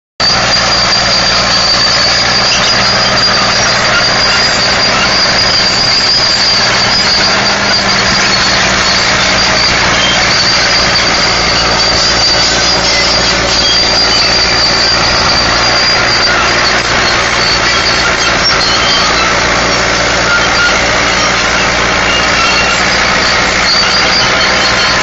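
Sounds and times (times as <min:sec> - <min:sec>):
diesel engine running under load: 0:00.2 - 0:25.0
high whine: 0:00.2 - 0:25.0.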